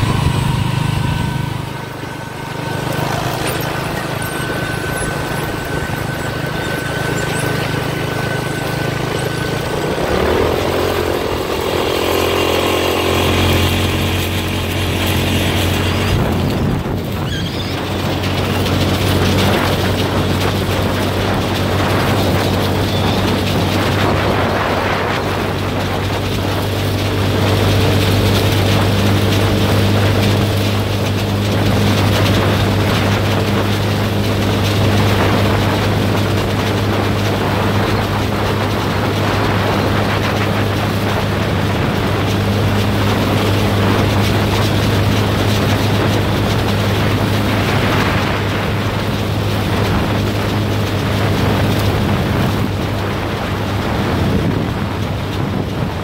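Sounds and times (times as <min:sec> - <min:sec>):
engine droning steadily: 0:00.0 - 0:56.0
wind buffeting microphone: 0:00.0 - 0:56.0.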